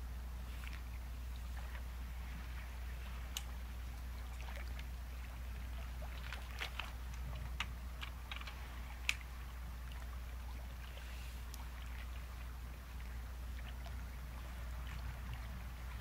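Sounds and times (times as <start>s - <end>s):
sea waves rumbling: 0.0s - 16.0s
water crackles and clicks: 0.6s - 16.0s.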